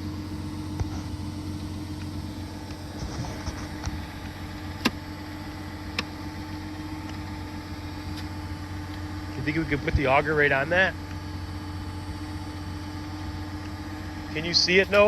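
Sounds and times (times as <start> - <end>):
auger engine idling: 0.0 - 15.0.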